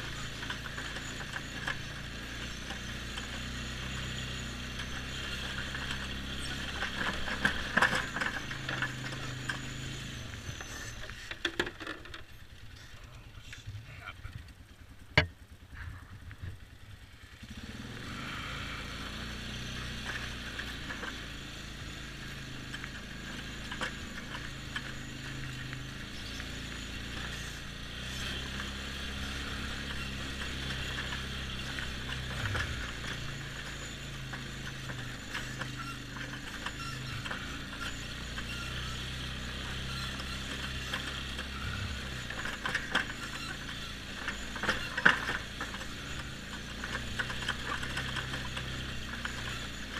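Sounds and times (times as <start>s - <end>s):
atv engine revving: 0.0s - 49.9s.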